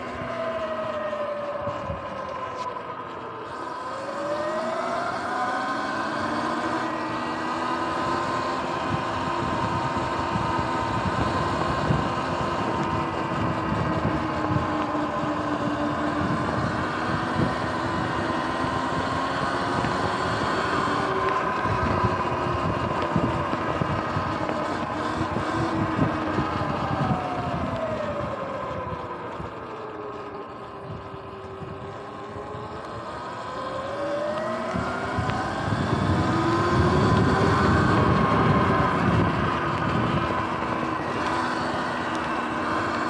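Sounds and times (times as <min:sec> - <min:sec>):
wind buffeting microphone: 0:00.0 - 0:02.6, 0:03.2 - 0:43.0
electric motor whining: 0:00.0 - 0:43.0.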